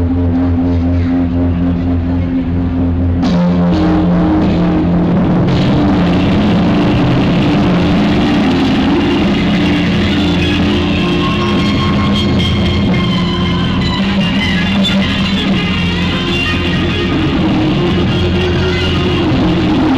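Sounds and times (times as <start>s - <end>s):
electric guitar: 0.0s - 19.9s.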